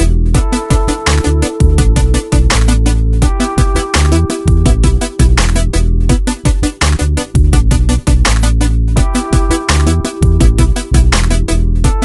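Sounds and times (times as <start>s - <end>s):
heavy bass: 0.0s - 12.0s
upbeat electronic music: 0.0s - 12.0s
punchy drum beat: 0.4s - 12.0s.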